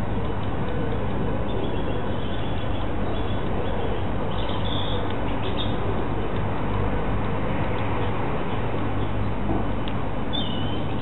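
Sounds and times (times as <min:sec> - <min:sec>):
birds calling faintly: 0:00.0 - 0:11.0.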